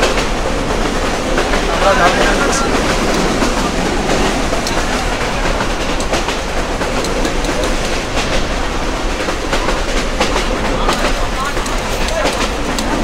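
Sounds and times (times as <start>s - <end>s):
train rumble: 0.0s - 13.0s
wheels clacking over rail joints: 0.0s - 13.0s.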